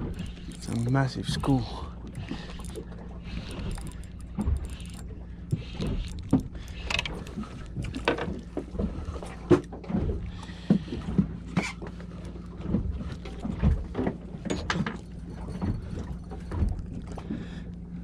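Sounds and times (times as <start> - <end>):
gear knocking and clunking: 0.0 - 17.8
steady low hum: 0.0 - 18.0.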